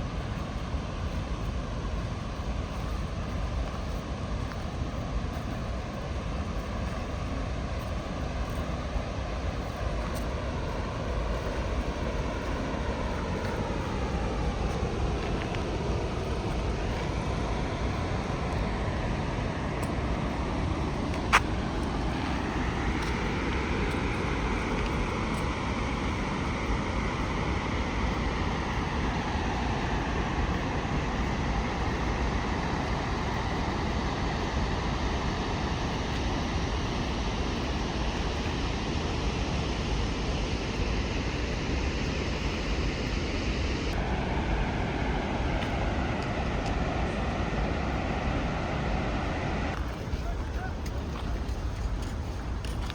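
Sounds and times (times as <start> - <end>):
waterfall roaring: 0.0 - 52.9.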